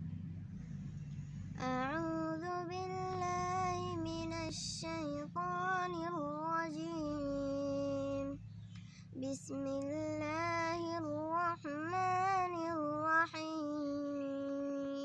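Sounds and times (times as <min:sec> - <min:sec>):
low steady hum: 0:00.0 - 0:15.0
girl chanting melodic recitation: 0:01.6 - 0:08.4, 0:09.1 - 0:15.0.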